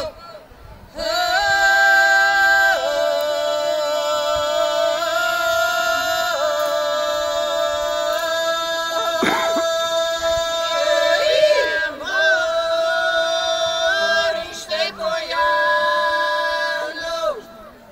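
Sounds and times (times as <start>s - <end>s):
women singing two-voice polyphony: 0.8s - 17.7s.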